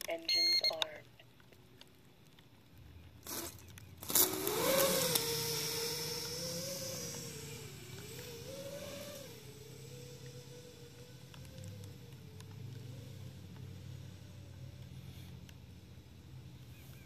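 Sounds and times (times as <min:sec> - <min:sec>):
quadcopter motors whirring: 0:03.2 - 0:17.0.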